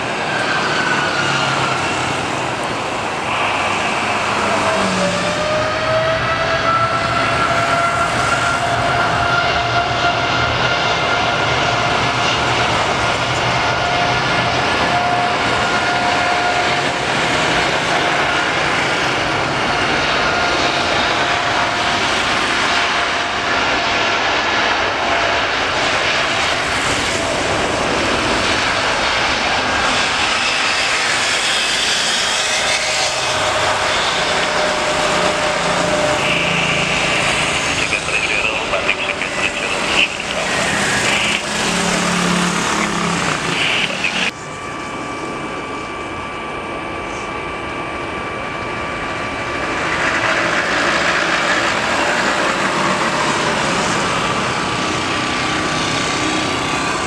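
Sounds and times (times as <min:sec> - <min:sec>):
jet engine roar with whine: 0:00.0 - 0:57.0.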